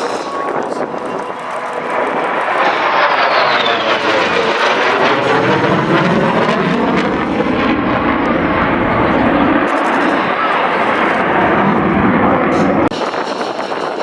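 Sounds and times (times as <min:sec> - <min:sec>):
military aircraft passing low: 0:00.0 - 0:14.0.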